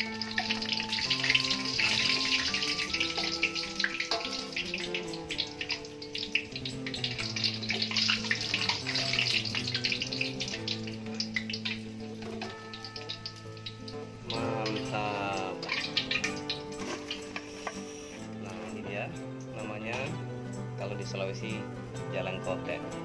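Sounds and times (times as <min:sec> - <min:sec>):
pastries deep-frying in oil: 0:00.0 - 0:19.0
background music with held notes: 0:00.0 - 0:23.0.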